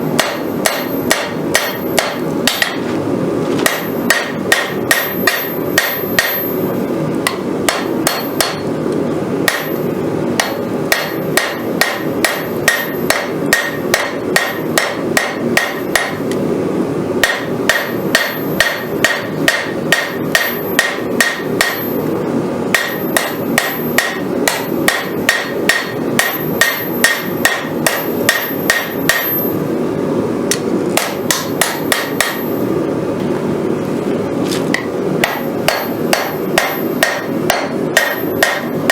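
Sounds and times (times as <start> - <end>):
hammer ringing on anvil: 0.2 - 2.8, 3.7 - 6.7, 7.3 - 8.7, 9.5 - 16.2, 17.2 - 22.1, 22.7 - 29.6, 31.0 - 32.7, 34.8 - 38.9.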